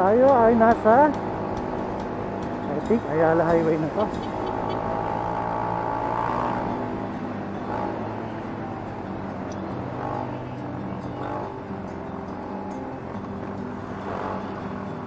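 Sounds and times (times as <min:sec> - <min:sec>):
road and wind noise: 0:00.0 - 0:15.0
vehicle engine running: 0:00.0 - 0:15.0.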